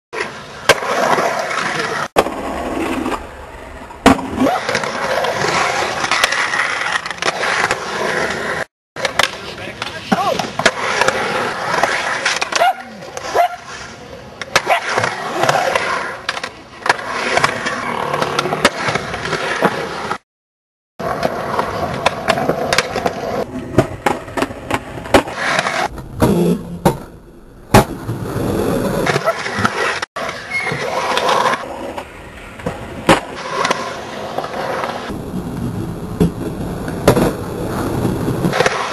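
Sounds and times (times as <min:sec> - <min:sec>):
skateboard wheels rolling on concrete: 0:00.2 - 0:20.2, 0:21.0 - 0:38.9.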